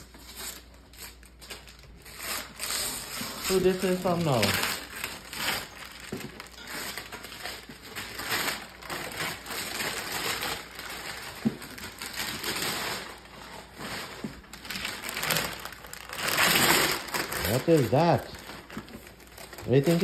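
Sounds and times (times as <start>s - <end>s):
wrapping paper tearing: 0.0s - 20.0s.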